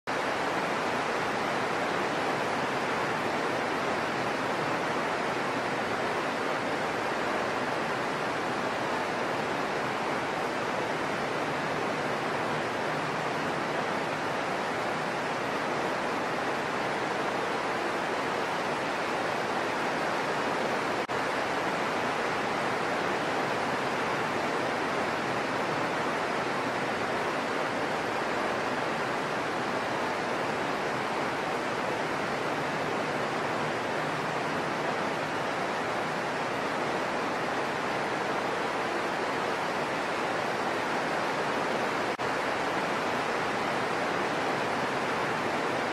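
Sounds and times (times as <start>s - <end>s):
heavy rain on trees: 0.0s - 45.9s.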